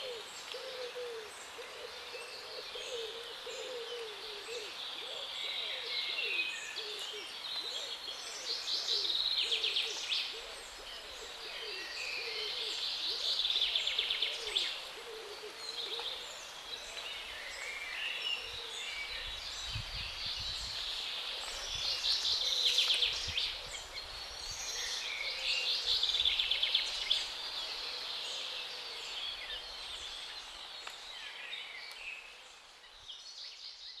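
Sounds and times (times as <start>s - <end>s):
birds singing: 0.0s - 34.0s.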